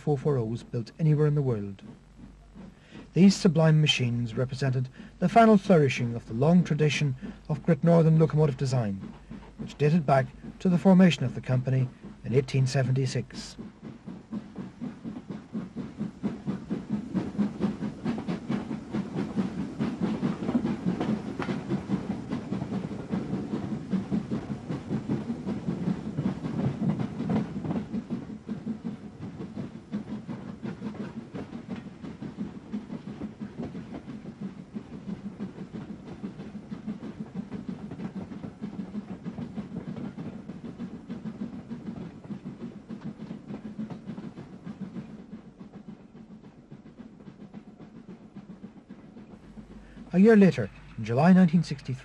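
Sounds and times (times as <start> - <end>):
steam locomotive exhaust beats: 0.0 - 52.0
train coaches rattling: 0.0 - 52.0.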